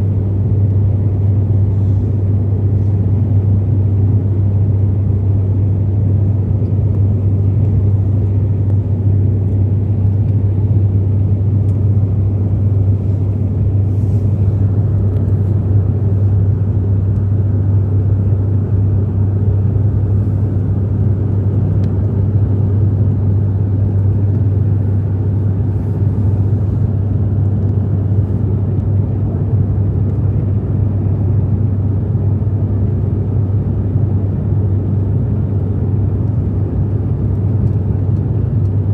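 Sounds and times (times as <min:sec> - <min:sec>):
aircraft cabin engine drone: 0:00.0 - 0:38.9.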